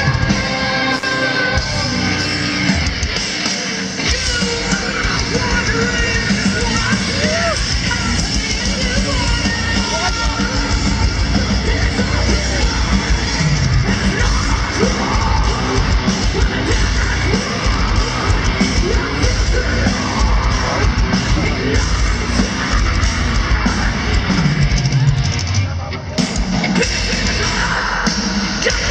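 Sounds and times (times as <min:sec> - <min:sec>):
heavy metal band playing: 0:00.0 - 0:28.9
people shouting and yelling: 0:00.0 - 0:28.9.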